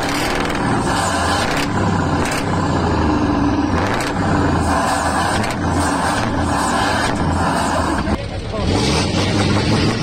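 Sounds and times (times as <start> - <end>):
truck diesel engine revving: 0.0 - 10.0.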